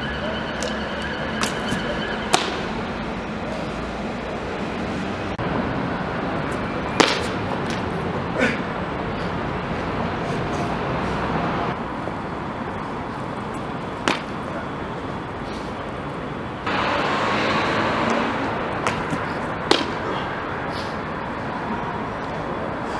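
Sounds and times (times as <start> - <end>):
city street traffic: 0.0 - 22.9.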